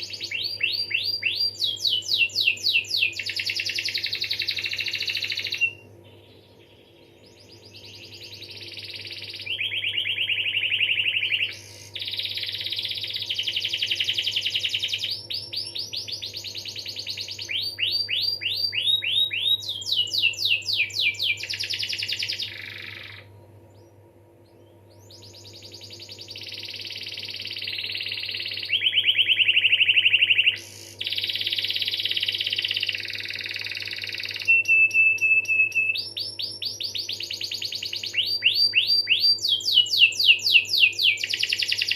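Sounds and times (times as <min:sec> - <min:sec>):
canary singing trills: 0:00.0 - 0:41.9
faint steady hum: 0:00.0 - 0:41.9.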